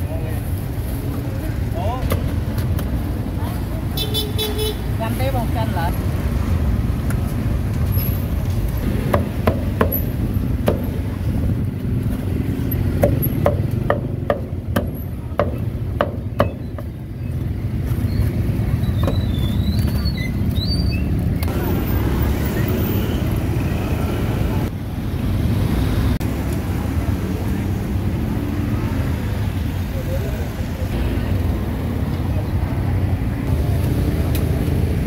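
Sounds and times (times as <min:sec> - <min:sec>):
street traffic rumble: 0:00.0 - 0:35.0.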